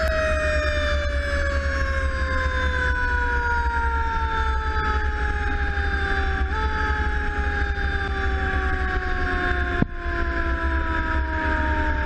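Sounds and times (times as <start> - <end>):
fire engine siren sliding down: 0.0 - 12.0
truck rumble: 0.0 - 12.0.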